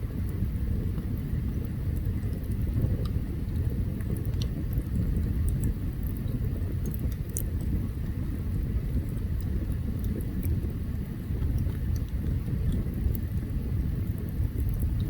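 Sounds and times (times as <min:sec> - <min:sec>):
campfire burning: 0:00.0 - 0:15.0
wood crackling and popping: 0:00.1 - 0:15.0.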